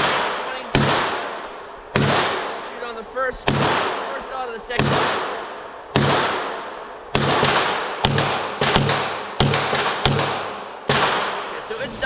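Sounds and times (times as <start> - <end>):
pistol shots with echo: 0.0 - 11.8
fainter gunshots: 0.0 - 12.0.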